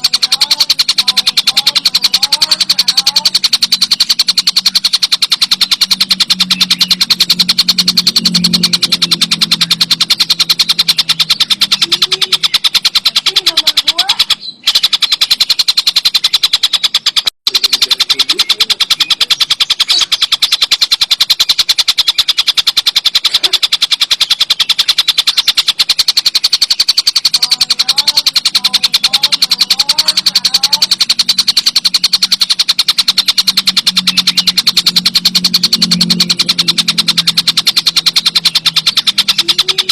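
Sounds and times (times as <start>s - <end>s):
bird rattling trill: 0.0s - 39.9s.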